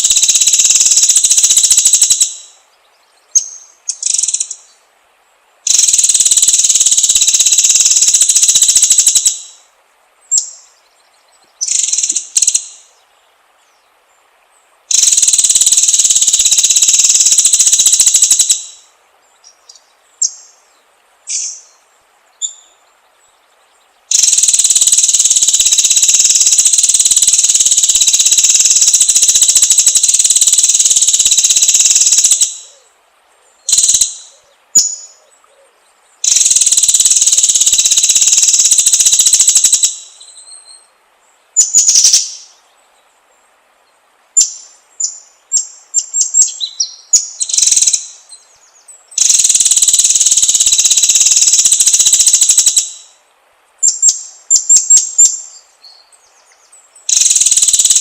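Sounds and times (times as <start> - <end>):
bird song with rapid trills: 0.0 - 4.8, 10.2 - 32.9, 33.5 - 43.2, 43.8 - 53.2, 53.8 - 58.0.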